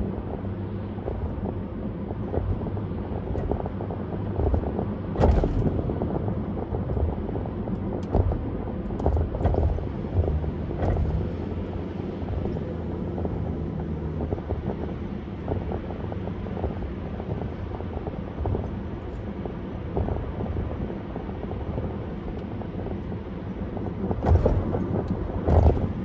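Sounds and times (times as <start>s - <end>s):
road and engine rumble: 0.0s - 26.0s
wind noise: 0.0s - 26.0s.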